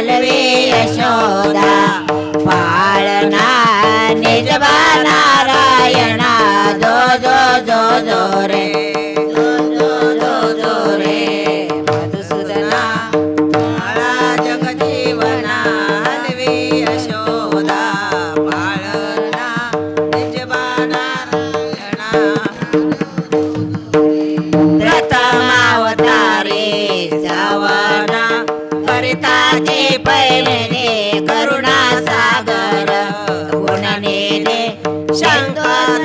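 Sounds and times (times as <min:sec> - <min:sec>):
drum accompaniment: 0:00.0 - 0:36.0.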